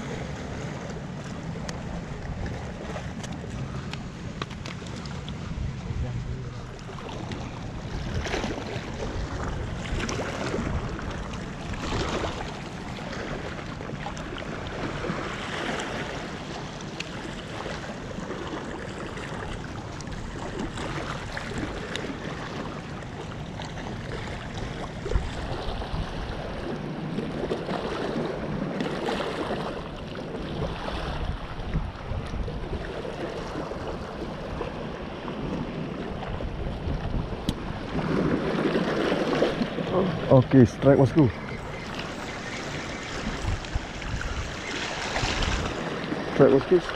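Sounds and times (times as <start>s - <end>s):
waves lapping against rocks: 0.0s - 46.9s
wind rumbling on microphone: 0.0s - 46.9s.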